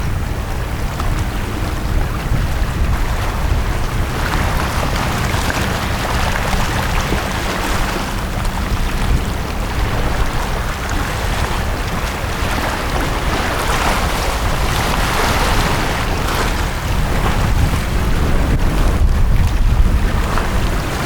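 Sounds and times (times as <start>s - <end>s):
sea waves washing onto beach: 0.0s - 21.0s
wind rumble on microphone: 0.0s - 21.0s.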